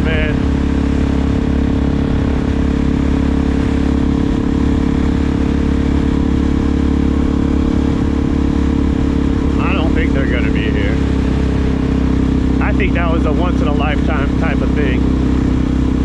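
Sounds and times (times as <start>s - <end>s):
motorcycle engine running steadily: 0.0s - 16.0s.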